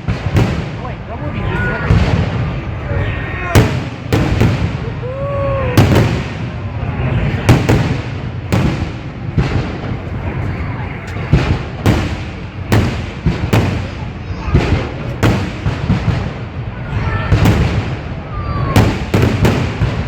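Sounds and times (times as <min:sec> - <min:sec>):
fireworks sharp bangs: 0:00.0 - 0:20.0
low rumble of distant bursts: 0:00.0 - 0:20.0.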